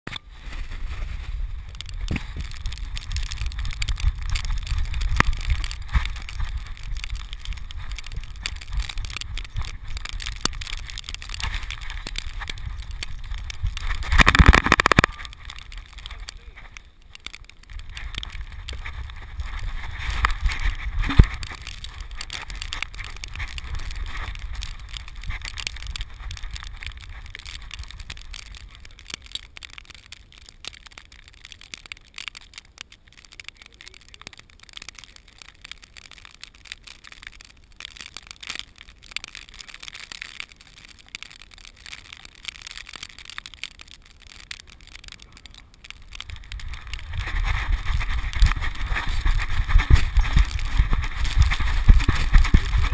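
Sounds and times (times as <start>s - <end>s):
crackly clicks: 0.1s - 52.9s.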